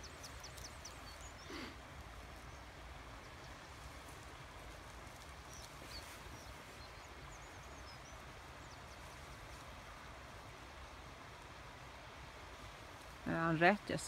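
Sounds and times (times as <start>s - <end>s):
low hiss: 0.0s - 14.0s.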